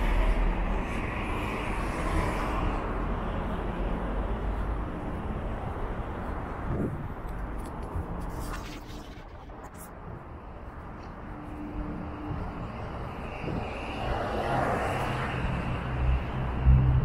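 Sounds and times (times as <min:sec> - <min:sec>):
cars driving past: 0:00.0 - 0:09.4, 0:10.0 - 0:17.0.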